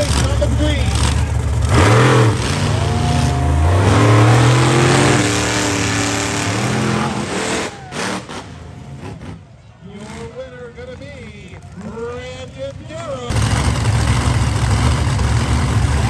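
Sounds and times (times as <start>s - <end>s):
truck engine revving hard: 0.0s - 11.0s, 13.2s - 16.0s.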